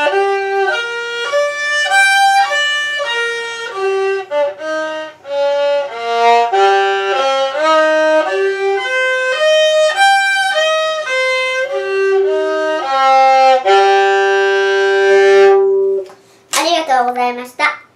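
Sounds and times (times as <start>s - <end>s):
violin playing a scale: 0.0s - 16.1s.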